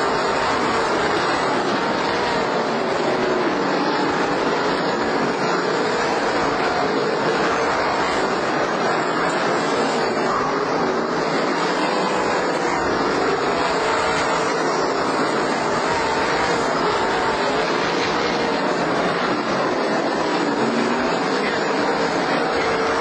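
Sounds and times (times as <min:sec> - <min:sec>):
race car engines at speed: 0:00.0 - 0:23.0.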